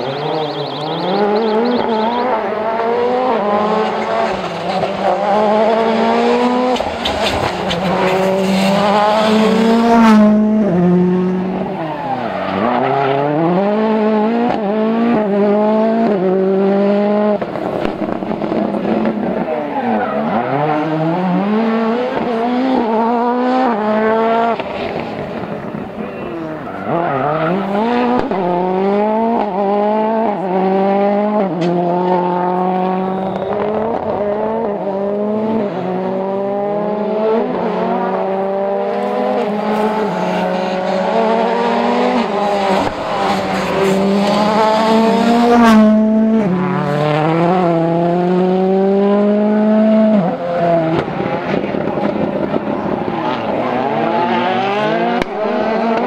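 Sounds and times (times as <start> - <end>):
rally car engines accelerating: 0.0 - 56.0.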